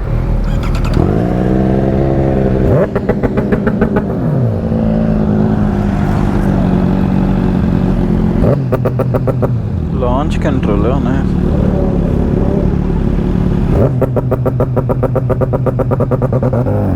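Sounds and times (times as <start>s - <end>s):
motorcycle engine accelerating: 0.0s - 16.9s.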